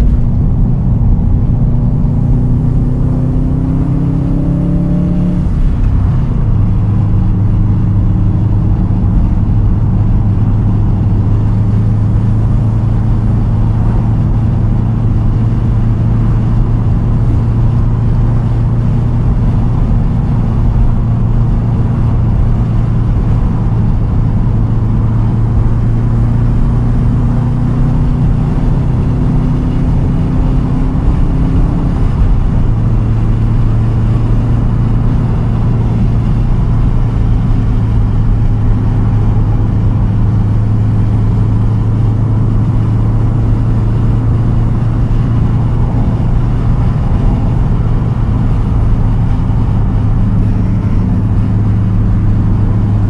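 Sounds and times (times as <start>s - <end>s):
car engine at cruising revs: 0.0s - 53.0s.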